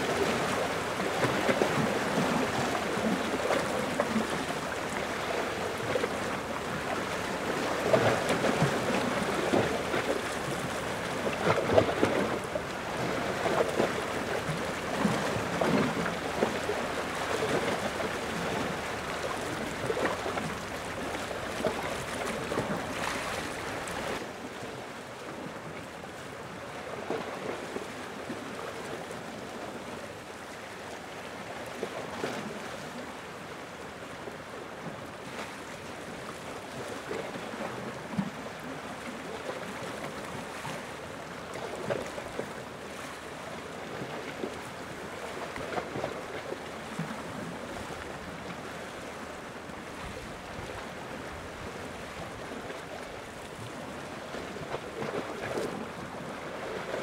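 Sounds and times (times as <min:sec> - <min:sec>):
ocean waves lapping on shore: 0:00.0 - 0:57.0.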